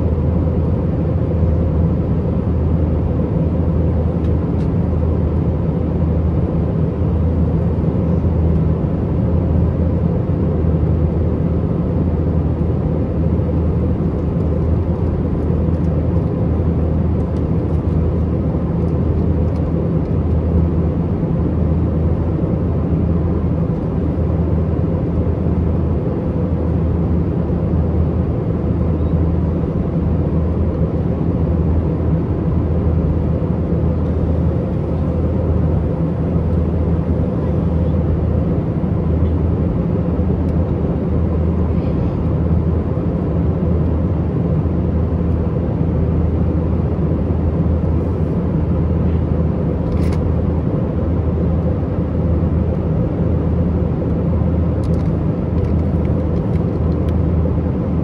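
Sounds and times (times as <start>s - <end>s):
jet engine drone: 0.0s - 58.0s
low cabin hum: 0.0s - 58.0s.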